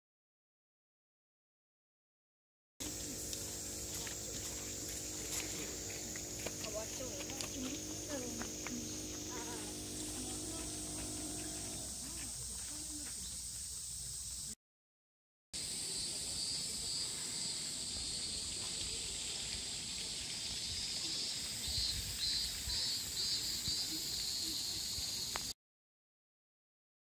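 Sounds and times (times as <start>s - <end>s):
high-pitched buzzing hiss: 2.8s - 14.6s, 15.6s - 25.6s.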